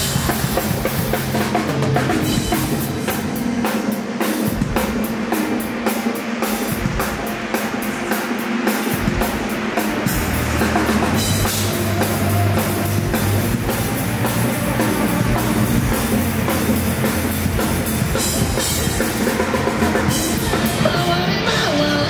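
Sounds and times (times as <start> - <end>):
drum kit: 0.0 - 22.0
live rock band playing: 0.0 - 22.0.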